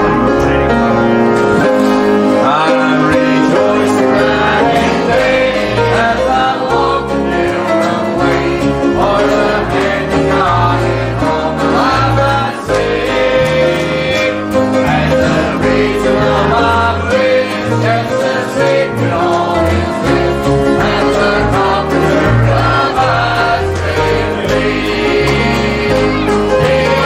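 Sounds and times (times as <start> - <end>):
song with singing: 0.0 - 27.0.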